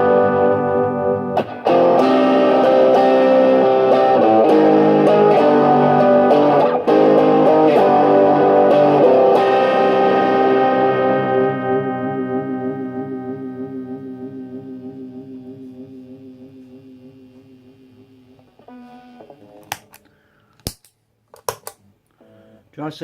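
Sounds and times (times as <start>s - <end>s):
electric guitar chords with phaser: 0.0s - 20.0s.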